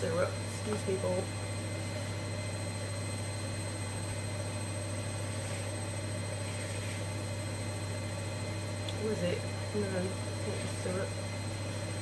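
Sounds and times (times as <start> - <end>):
washing machine spin cycle hum: 0.0 - 12.0.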